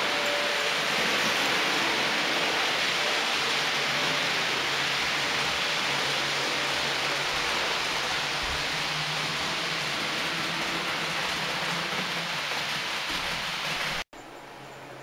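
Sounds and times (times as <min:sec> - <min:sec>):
model train wheels on rail: 0:00.0 - 0:15.0.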